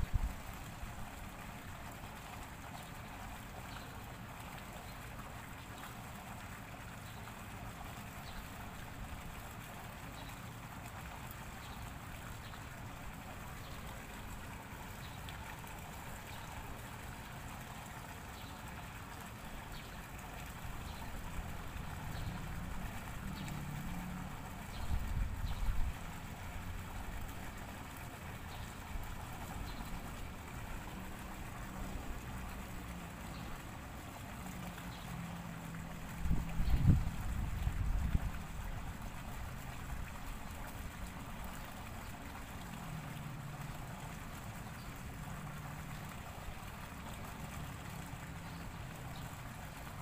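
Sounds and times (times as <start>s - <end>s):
water trickling: 0.0s - 50.0s.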